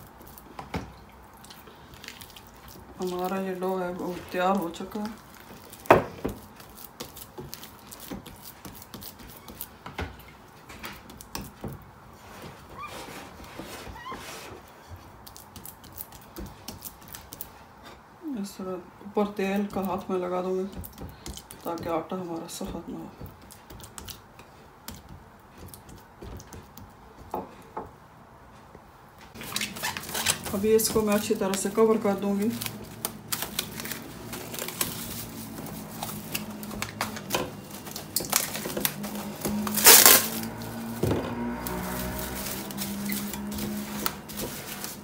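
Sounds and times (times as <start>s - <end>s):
hands kneading sticky dough: 0.0s - 45.0s.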